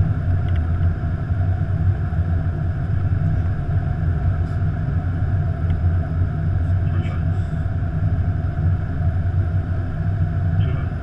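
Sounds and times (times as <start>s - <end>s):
airflow and engines rumbling: 0.0s - 11.0s.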